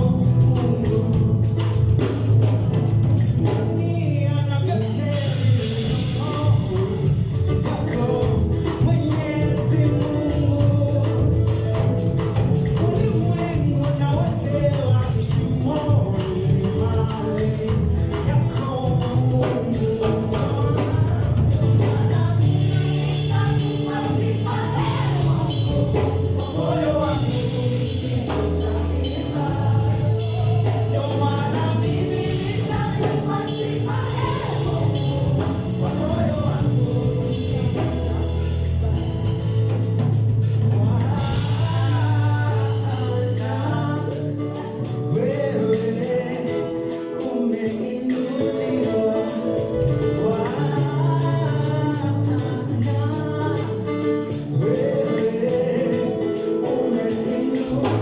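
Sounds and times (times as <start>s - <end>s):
bass line: 0.0s - 58.0s
busy percussion: 0.0s - 58.0s
group singing gospel song: 0.0s - 58.0s.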